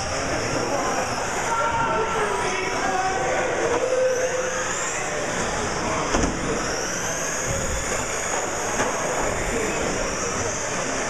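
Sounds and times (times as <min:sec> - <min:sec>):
toy truck motors whining: 0:00.0 - 0:11.0.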